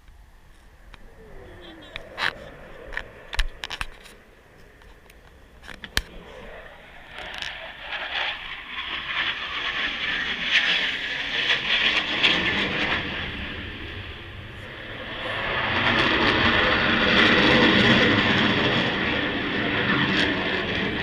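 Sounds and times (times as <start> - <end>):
aircraft engine rushing: 0.0 - 21.0.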